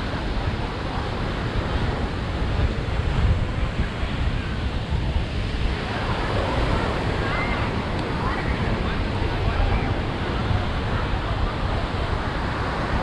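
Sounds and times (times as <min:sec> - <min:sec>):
surf washing onto beach: 0:00.0 - 0:13.0
wind rumble on microphone: 0:00.0 - 0:13.0.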